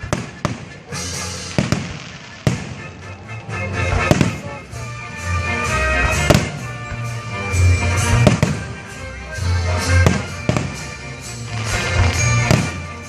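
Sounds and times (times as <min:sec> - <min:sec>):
fireworks exploding: 0:00.0 - 0:04.8, 0:05.4 - 0:13.0
music playing: 0:00.0 - 0:13.0.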